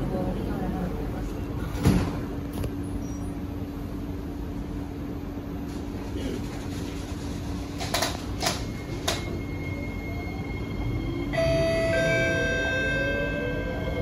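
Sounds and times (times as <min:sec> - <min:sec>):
train car interior hum: 0:00.0 - 0:14.0.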